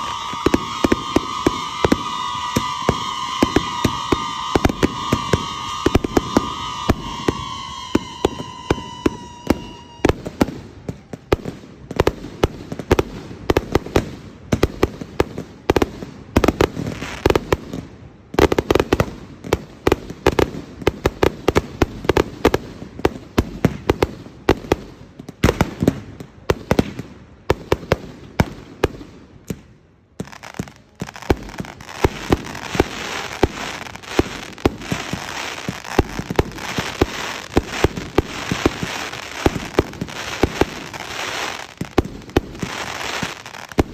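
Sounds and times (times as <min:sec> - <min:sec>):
fireworks bursts and bangs: 0:00.0 - 0:43.9
fireworks crackling hiss: 0:00.0 - 0:43.9.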